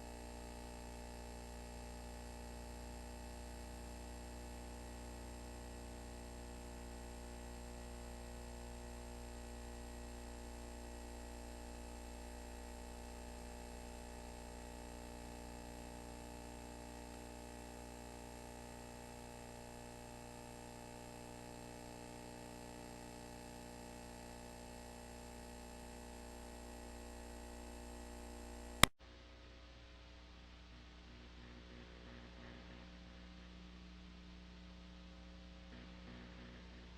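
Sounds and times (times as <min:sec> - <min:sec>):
electrical hum and hiss: 0:00.0 - 0:36.9.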